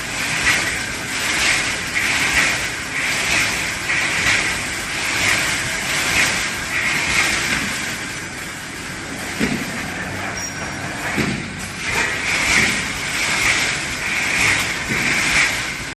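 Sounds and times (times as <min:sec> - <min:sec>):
welding machine hissing: 0:00.0 - 0:15.9.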